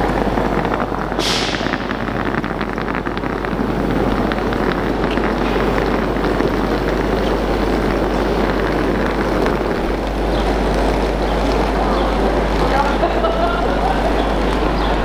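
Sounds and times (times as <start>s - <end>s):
electric trains humming: 0.0s - 15.0s
rolling suitcase wheels: 0.0s - 15.0s.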